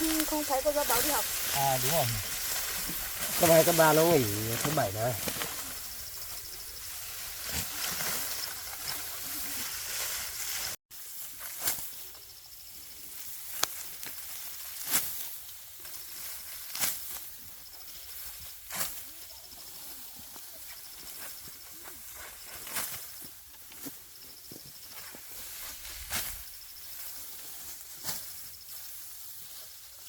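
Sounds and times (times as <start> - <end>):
dry stalks rustling: 0.0 - 12.2, 13.1 - 30.0.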